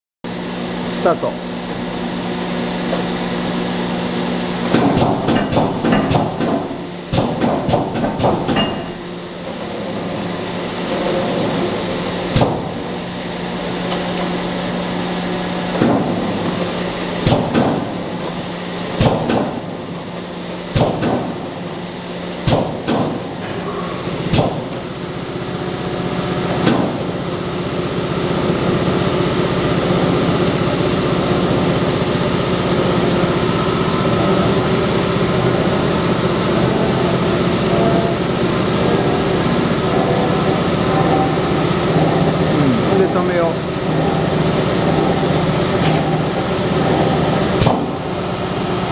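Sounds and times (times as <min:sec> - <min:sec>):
press motor hum: 0:00.3 - 0:48.9.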